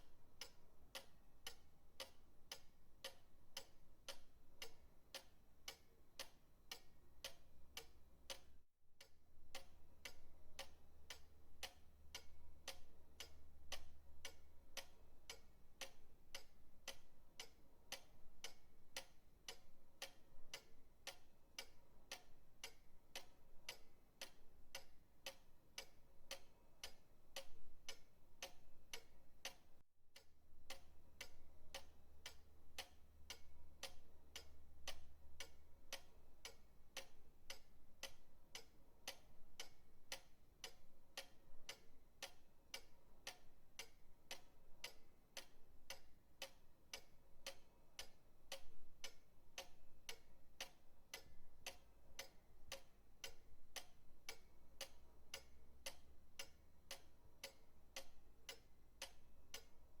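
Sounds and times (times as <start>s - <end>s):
pendulum clock ticking: 0.0s - 60.0s.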